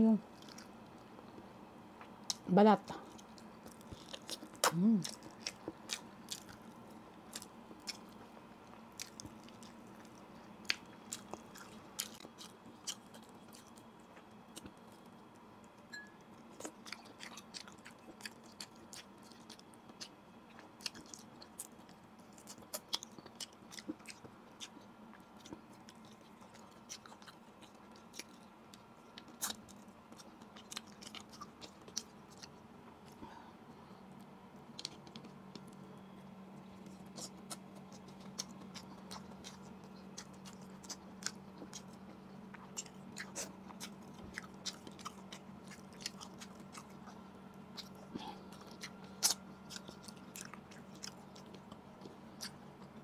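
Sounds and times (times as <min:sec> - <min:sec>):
chewing and lip smacks: 0:03.0 - 0:15.2, 0:16.4 - 0:33.2, 0:36.6 - 0:53.0.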